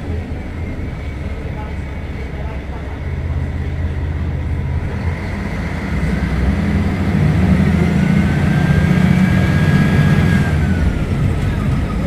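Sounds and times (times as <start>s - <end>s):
bus diesel engine pulling: 0.0s - 12.0s.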